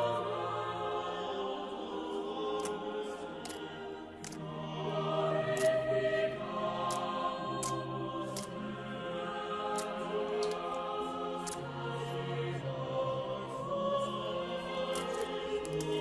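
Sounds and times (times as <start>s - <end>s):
choir-like background music: 0.0s - 16.0s.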